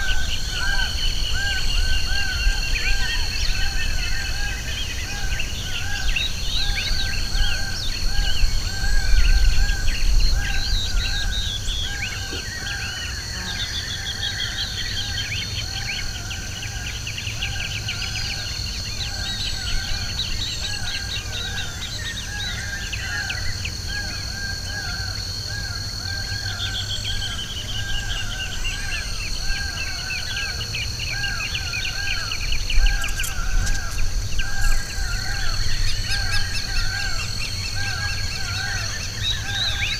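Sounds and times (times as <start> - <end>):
birds singing and calling: 0.0 - 39.9
steady high-pitched hum: 0.0 - 39.9.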